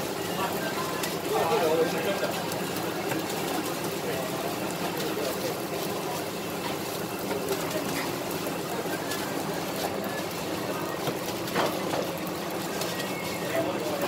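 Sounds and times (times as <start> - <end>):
faint background chatter: 0.0 - 14.0
kitchen machine hum: 0.0 - 14.0.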